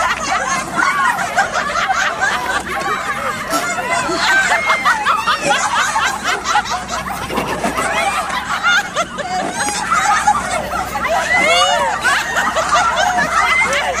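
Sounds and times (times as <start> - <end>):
women laughing and giggling: 0.0 - 14.0.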